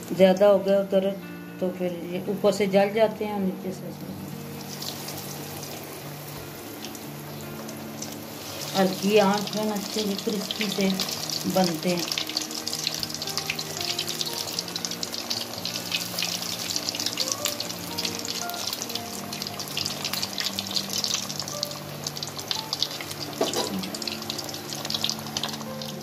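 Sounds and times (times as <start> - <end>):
soft background music: 0.0 - 26.0
food deep-frying in oil: 4.2 - 26.0.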